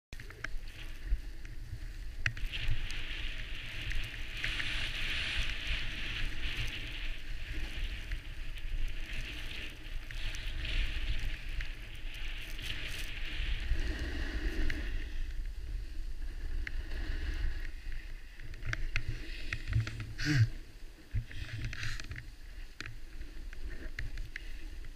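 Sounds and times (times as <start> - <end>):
skis sliding on packed snow: 0.2 - 24.9.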